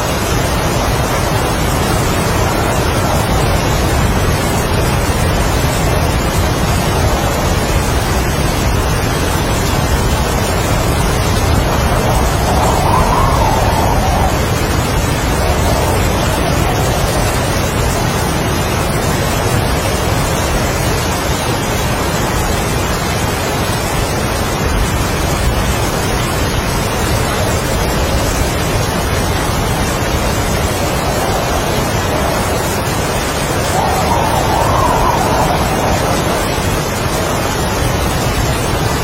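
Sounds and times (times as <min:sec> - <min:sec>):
heavy rain: 0:00.0 - 0:39.0
strong wind: 0:00.0 - 0:39.0.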